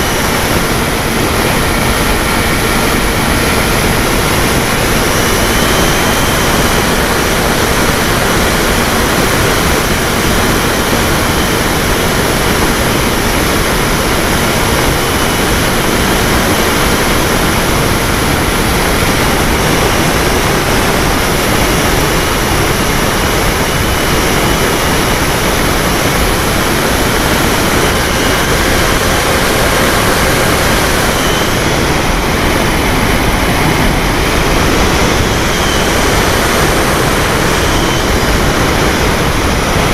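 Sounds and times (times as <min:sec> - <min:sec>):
faint engine hum: 0:00.0 - 0:39.9
wind and propeller rush: 0:00.0 - 0:39.9.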